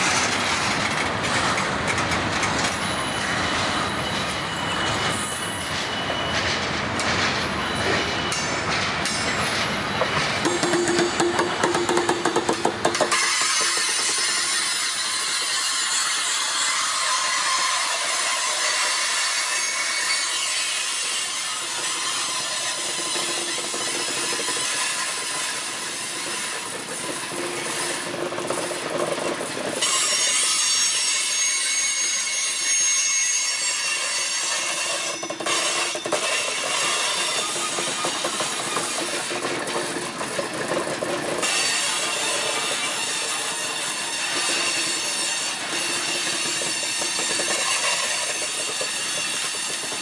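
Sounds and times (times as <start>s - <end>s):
train wheels on rails: 0.0s - 50.0s.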